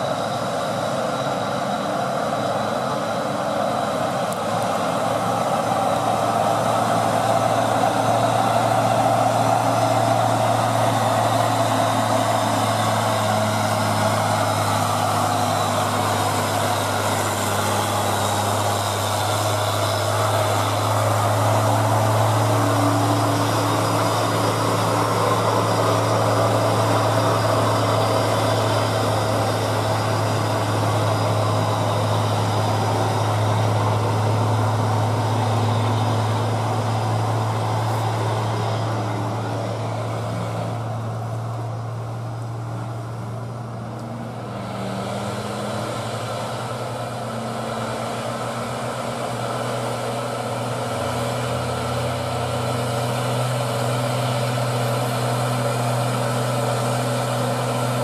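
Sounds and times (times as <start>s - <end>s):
dump truck diesel engines labouring: 0.0s - 58.0s.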